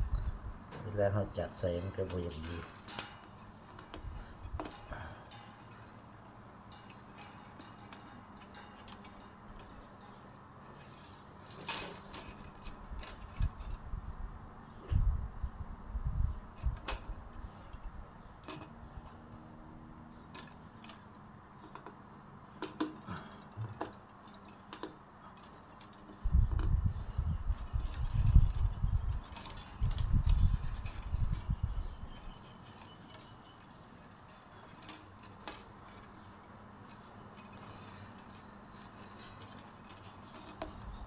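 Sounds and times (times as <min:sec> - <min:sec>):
bamboo strips clicking and rustling: 0:00.0 - 0:14.9, 0:16.4 - 0:41.0.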